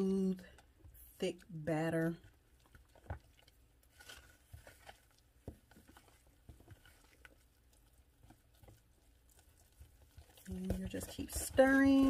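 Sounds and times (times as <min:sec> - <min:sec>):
batter stirred in plastic bowl: 0:00.0 - 0:12.0.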